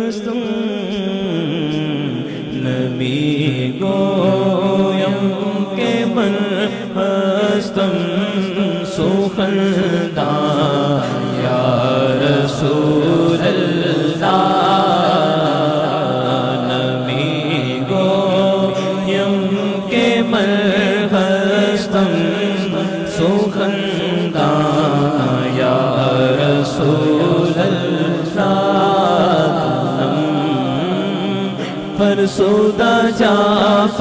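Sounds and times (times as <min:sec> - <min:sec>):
man singing unaccompanied: 0:00.0 - 0:34.0.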